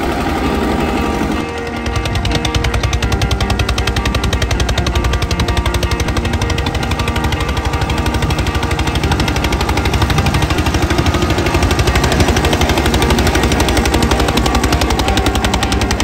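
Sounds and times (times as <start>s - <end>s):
music playing: 0.0s - 16.0s
rapid pounding: 0.0s - 16.0s.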